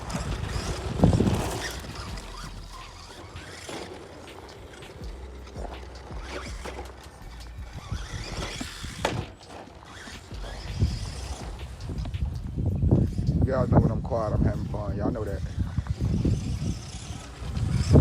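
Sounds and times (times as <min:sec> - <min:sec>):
toy truck motor: 0:00.0 - 0:18.0.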